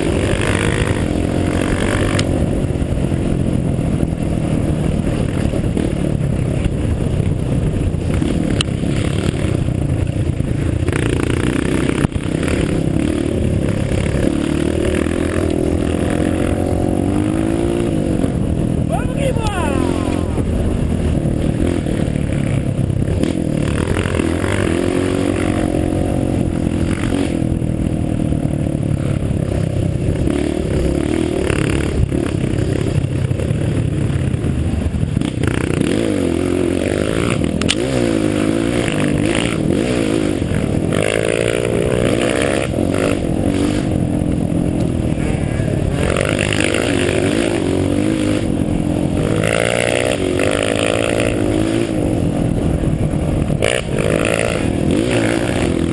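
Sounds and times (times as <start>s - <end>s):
off-road vehicle engine revving: 0.0s - 6.3s, 8.0s - 34.1s, 34.8s - 55.9s.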